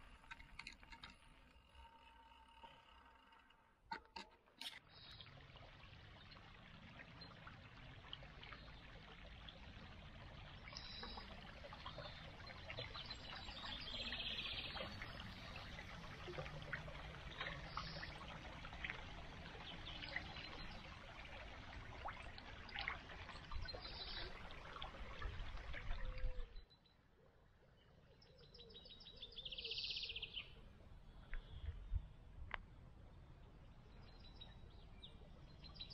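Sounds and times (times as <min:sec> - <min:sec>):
creek water trickling: 0:00.0 - 0:35.9.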